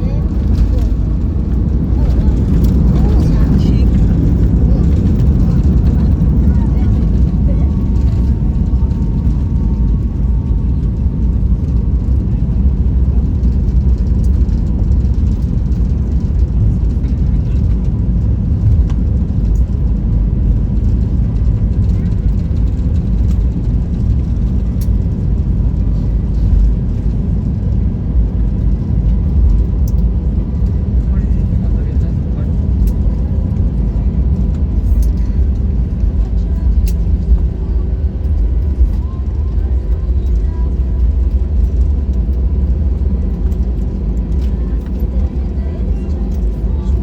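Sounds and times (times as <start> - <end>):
airplane cabin engine rumble: 0.0 - 47.0.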